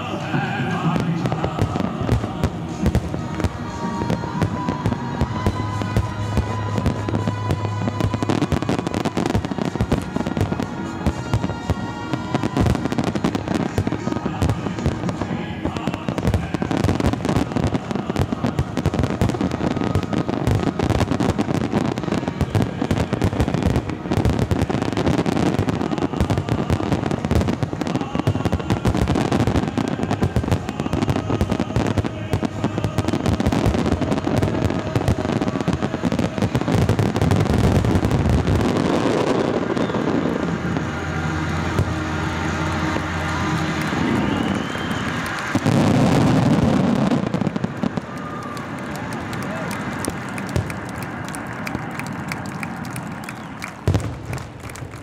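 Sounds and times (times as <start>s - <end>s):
fireworks bangs and crackles: 0.0s - 55.0s
music playing: 0.0s - 55.0s.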